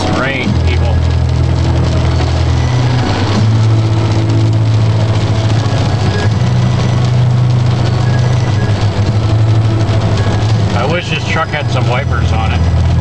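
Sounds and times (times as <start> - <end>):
rain and tyres on wet road: 0.0 - 13.0
truck engine drone: 0.0 - 13.0.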